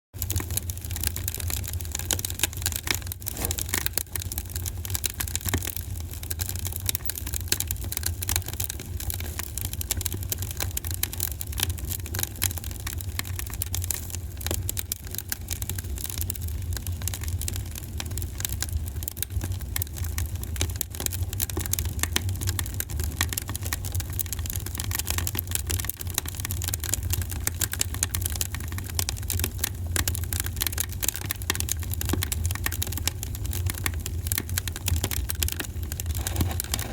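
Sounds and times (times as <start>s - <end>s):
fire crackling and popping: 0.2s - 36.9s.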